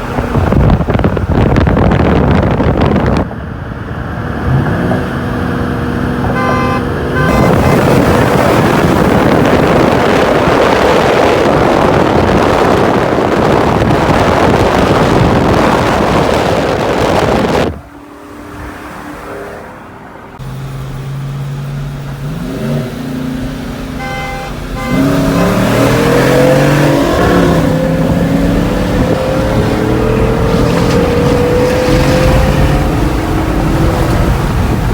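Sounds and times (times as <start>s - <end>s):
truck engine accelerating: 0.0s - 18.0s, 20.3s - 34.9s
wind and road noise: 0.0s - 34.9s.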